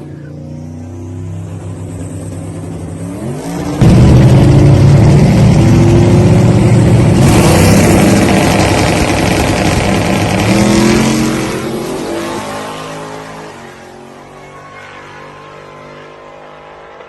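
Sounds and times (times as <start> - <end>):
drag car engine at full throttle: 0.0 - 17.0.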